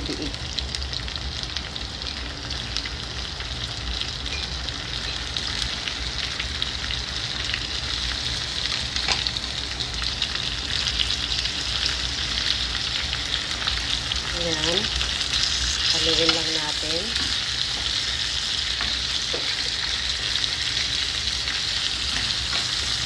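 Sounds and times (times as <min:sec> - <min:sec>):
meat sizzling in a frying pan: 0:00.0 - 0:23.0.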